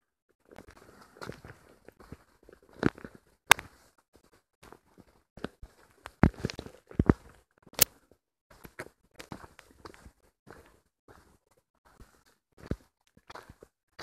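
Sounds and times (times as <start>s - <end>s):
footsteps on rocky trail: 0.4s - 14.0s.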